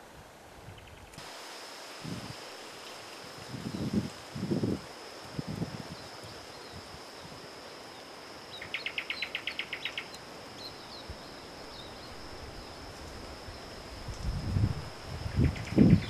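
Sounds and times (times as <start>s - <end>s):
constant high whine: 0.0s - 16.0s
steady hiss: 0.0s - 16.0s.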